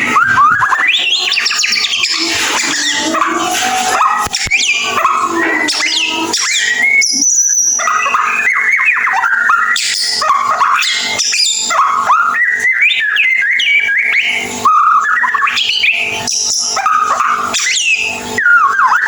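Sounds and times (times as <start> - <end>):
bird singing whistled notes: 0.0 - 19.0.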